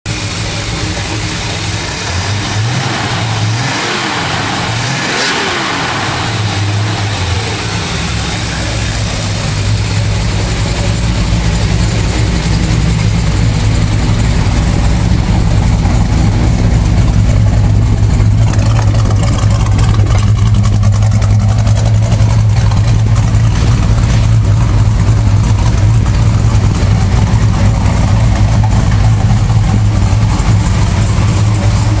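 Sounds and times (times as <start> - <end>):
car engine idling: 0.0 - 32.0
car engine revving: 0.1 - 32.0.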